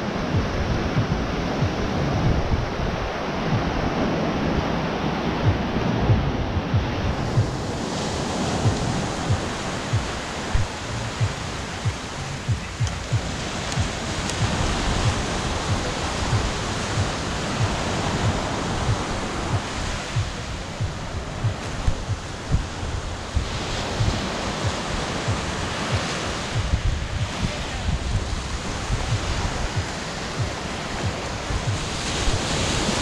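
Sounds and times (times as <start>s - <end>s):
ocean surf washing ashore: 0.0s - 33.0s
wind buffeting microphone: 0.0s - 33.0s
low thuds at walking pace: 0.3s - 2.6s, 3.5s - 3.8s, 5.4s - 7.8s, 8.6s - 22.8s, 23.4s - 28.3s, 28.9s - 32.4s.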